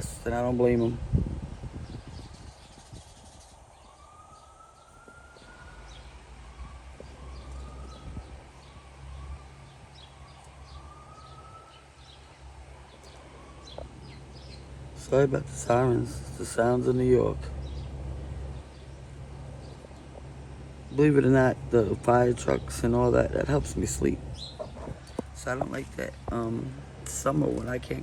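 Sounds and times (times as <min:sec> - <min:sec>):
birds chirping: 0:00.0 - 0:28.0
distant siren wailing: 0:00.0 - 0:28.0
low steady rumble: 0:00.0 - 0:28.0.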